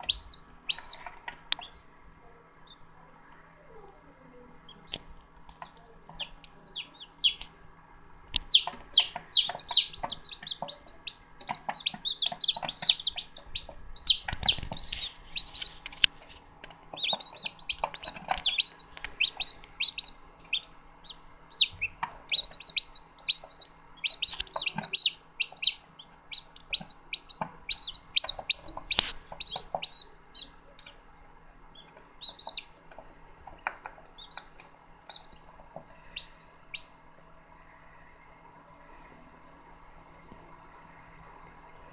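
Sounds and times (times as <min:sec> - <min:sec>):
chicks peeping: 0:00.0 - 0:03.0, 0:03.7 - 0:07.6, 0:08.3 - 0:37.2.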